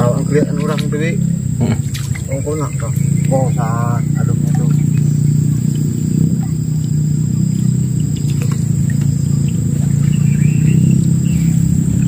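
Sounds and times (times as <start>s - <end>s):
high-pitched insect drone: 0.0s - 12.0s
steady low hum: 0.0s - 12.0s.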